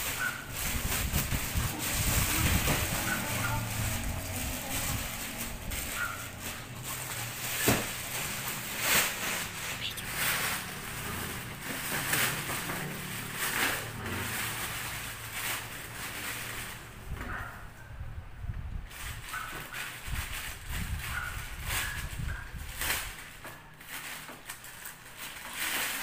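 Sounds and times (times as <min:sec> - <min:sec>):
plastic bag crinkling: 0:00.0 - 0:17.0, 0:19.0 - 0:26.0
plastic bag ripping: 0:00.0 - 0:17.0, 0:19.8 - 0:26.0.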